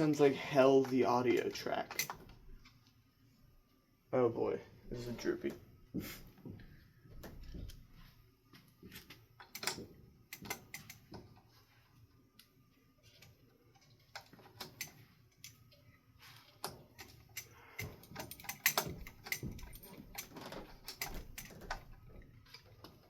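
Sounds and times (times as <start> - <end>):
fan parts clicking and tapping: 0.0 - 2.9, 4.9 - 11.6, 12.3 - 23.0.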